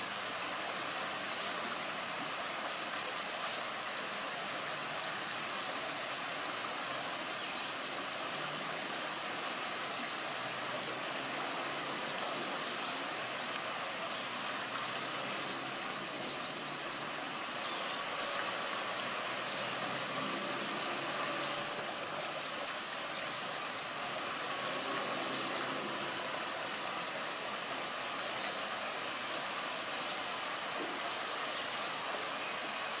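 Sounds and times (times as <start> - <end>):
water rushing over weir: 0.0 - 33.0.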